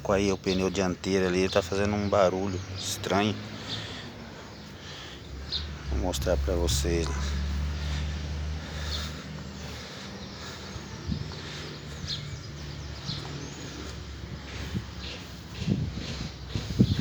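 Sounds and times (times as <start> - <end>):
birds chirping: 0.0 - 17.0
quiet outdoor background noise: 0.0 - 17.0.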